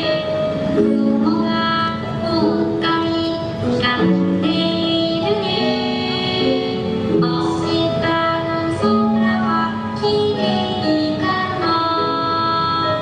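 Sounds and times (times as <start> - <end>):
plucked-string accompaniment: 0.0 - 13.0
song with high sung melody: 0.0 - 13.0.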